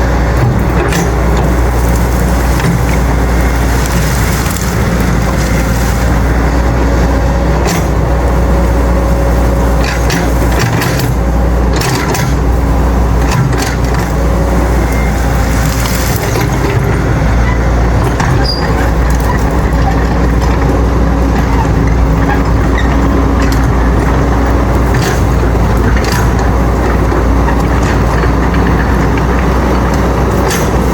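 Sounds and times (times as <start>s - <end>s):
diesel engine running under load: 0.0s - 30.9s.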